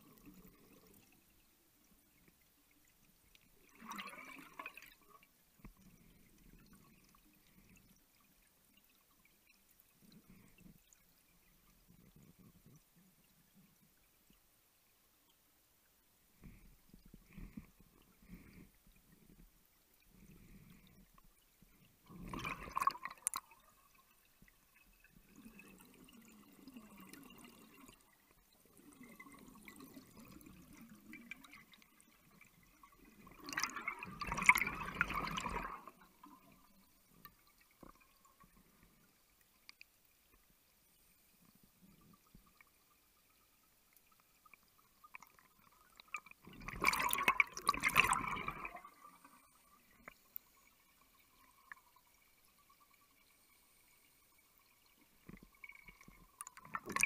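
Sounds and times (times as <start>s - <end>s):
underwater bubbles gurgling: 0.0s - 14.5s, 16.4s - 57.0s.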